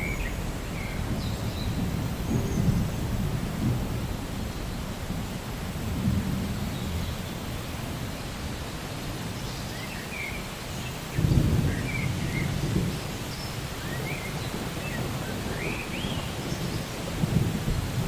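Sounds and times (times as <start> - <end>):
low thunder rumble: 0.0 - 8.1, 11.1 - 18.0
steady rain: 0.0 - 18.0.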